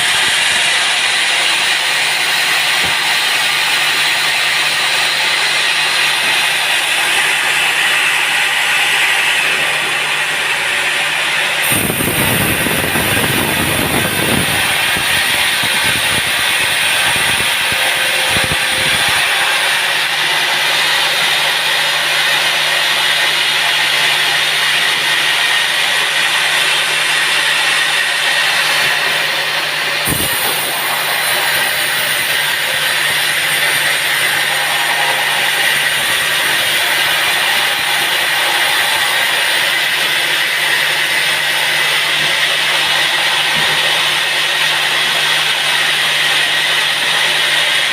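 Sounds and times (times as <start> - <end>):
saw cutting logs: 0.0 - 47.9.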